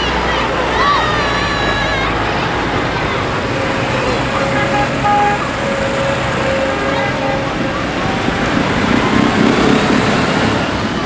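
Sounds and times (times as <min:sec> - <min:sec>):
tractor engines driving past: 0:00.0 - 0:11.0.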